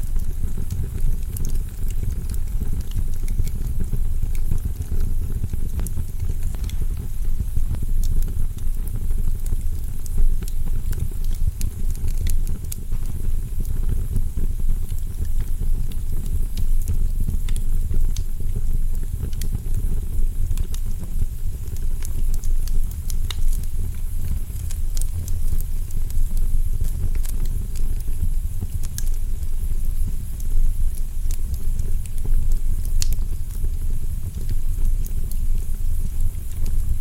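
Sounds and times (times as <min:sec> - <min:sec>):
wood fire crackling and popping: 0:00.0 - 0:37.0.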